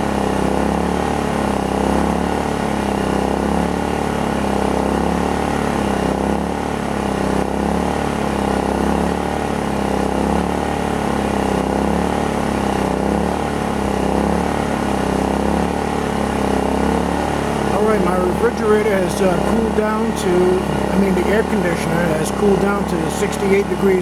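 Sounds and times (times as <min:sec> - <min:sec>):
generator engine running: 0:00.0 - 0:24.0.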